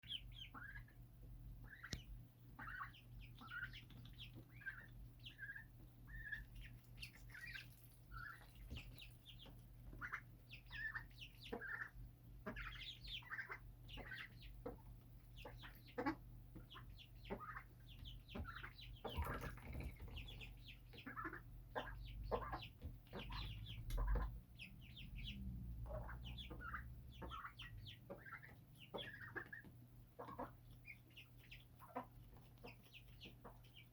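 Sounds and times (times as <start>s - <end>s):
small birds chirping: 0.0s - 33.9s
steady low hum: 0.0s - 33.9s.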